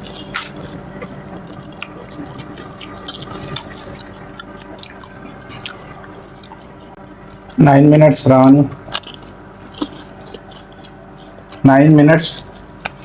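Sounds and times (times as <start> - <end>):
person chewing wet food: 0.0 - 7.6, 8.5 - 11.7, 12.4 - 13.0.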